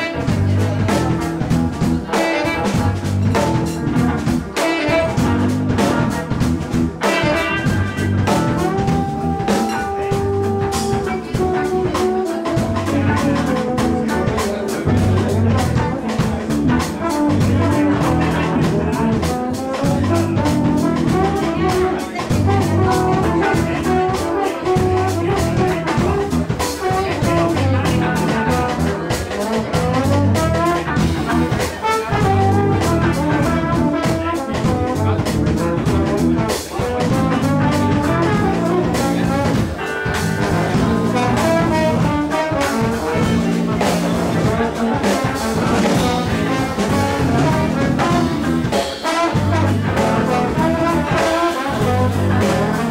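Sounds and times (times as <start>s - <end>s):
live band playing: 0.0s - 52.9s
trombone: 0.0s - 52.9s.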